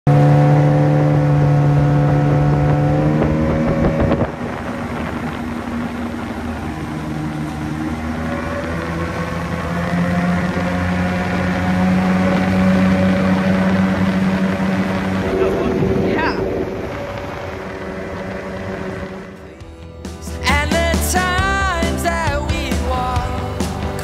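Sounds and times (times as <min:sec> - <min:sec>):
outboard motor running: 0:00.1 - 0:24.0.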